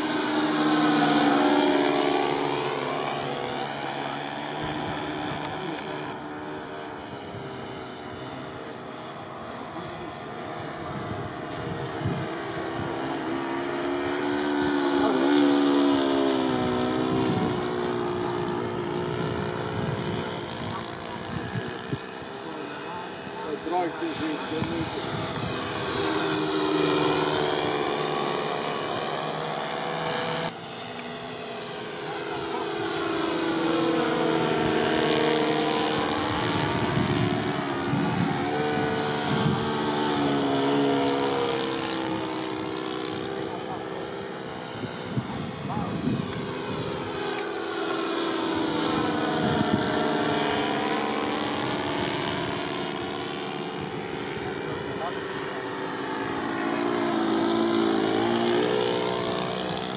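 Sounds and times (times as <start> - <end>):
propeller aircraft flying past: 0.0 - 59.9.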